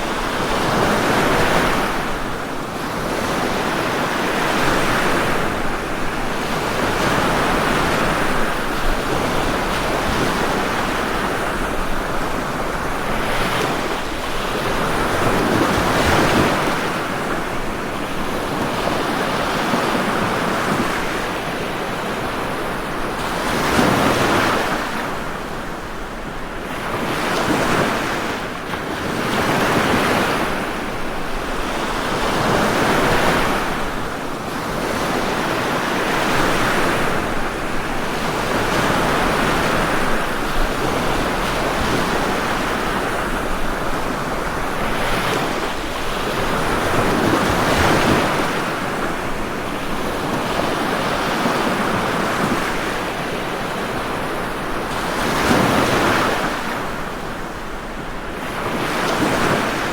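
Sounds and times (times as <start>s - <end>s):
ocean waves on shore: 0.0s - 59.9s.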